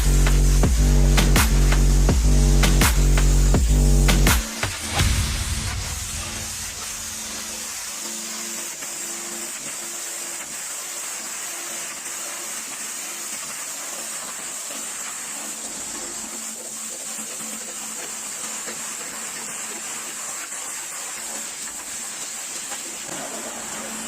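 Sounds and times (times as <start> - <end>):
pressure washer spraying water: 0.0 - 24.0.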